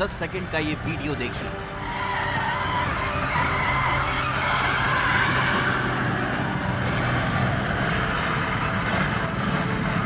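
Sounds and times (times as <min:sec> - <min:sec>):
truck running on a road: 0:00.0 - 0:10.0.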